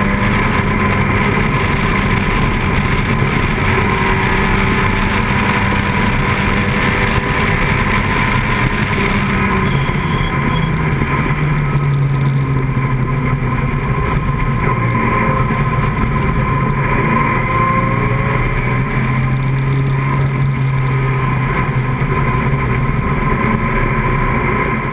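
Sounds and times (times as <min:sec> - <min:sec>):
race car engine at speed: 0:00.0 - 0:24.9.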